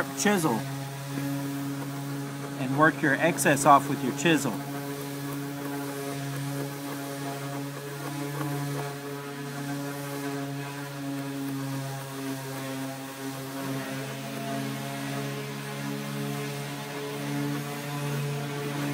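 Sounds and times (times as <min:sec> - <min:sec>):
machine hum: 0:00.0 - 0:18.9.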